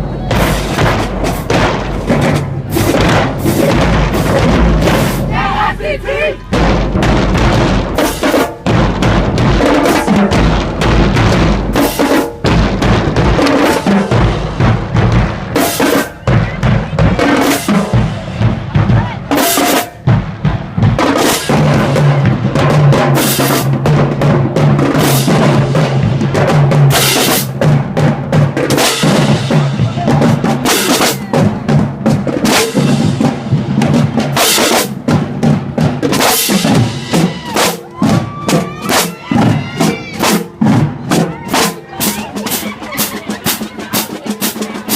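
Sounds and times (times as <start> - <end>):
marching band playing: 0.0 - 44.9
snare and bass drums: 0.0 - 44.9.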